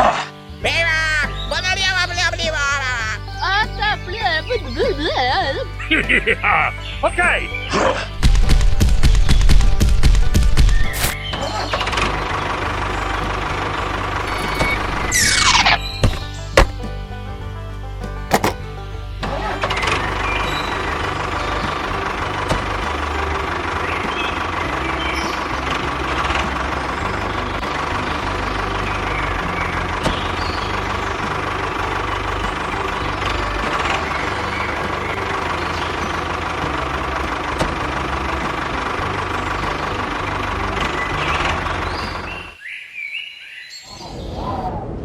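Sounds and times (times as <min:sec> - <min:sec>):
small tractor engine chugging: 0:00.0 - 0:42.6.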